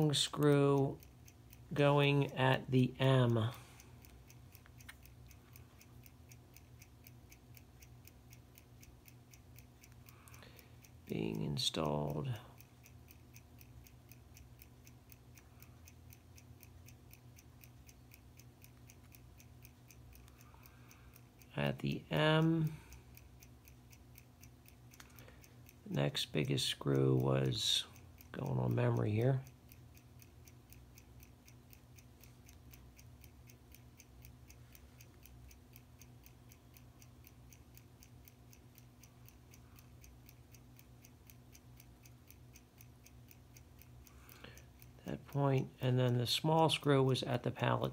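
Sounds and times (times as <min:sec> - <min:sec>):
clock ticking: 0:00.0 - 0:47.9
low steady hum: 0:00.0 - 0:47.9.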